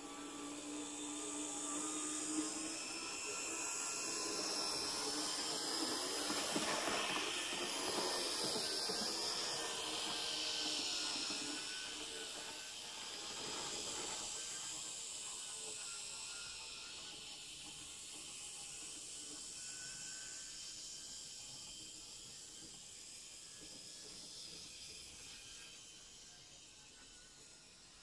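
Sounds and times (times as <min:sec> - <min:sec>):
model train whirring on track: 0:00.0 - 0:28.0.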